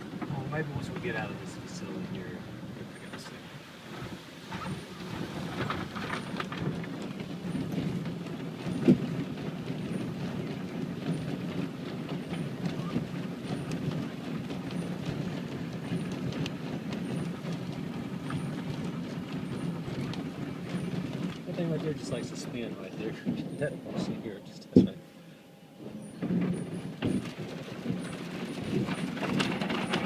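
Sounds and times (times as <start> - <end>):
car wash machine rumble: 0.0 - 30.0.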